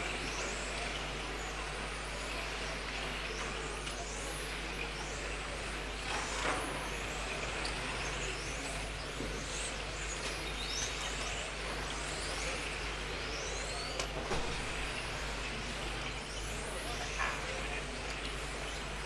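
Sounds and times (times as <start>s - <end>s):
rc car motors whining: 0.0s - 19.0s.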